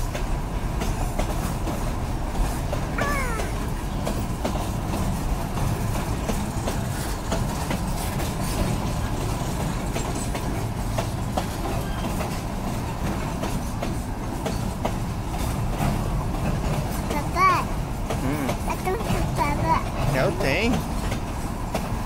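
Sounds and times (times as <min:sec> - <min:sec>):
clicks and clanks of wagons: 0:00.0 - 0:22.0
steel wheels rumbling on track: 0:00.0 - 0:22.0.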